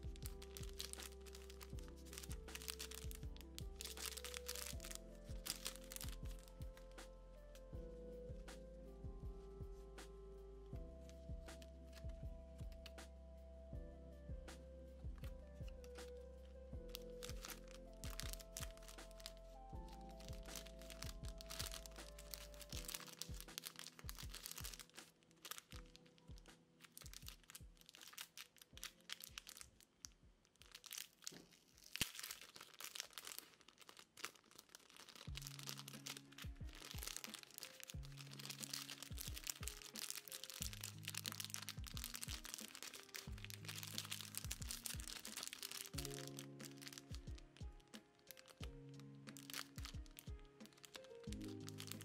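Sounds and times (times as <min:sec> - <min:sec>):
plastic packaging crinkling: 0:00.0 - 0:07.3, 0:11.0 - 0:13.0, 0:16.9 - 0:52.0
soft lofi music: 0:00.0 - 0:52.0.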